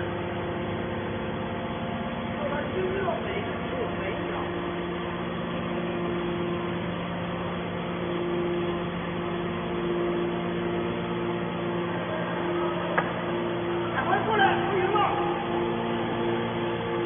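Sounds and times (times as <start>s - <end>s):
baler machine humming: 0.0s - 17.0s.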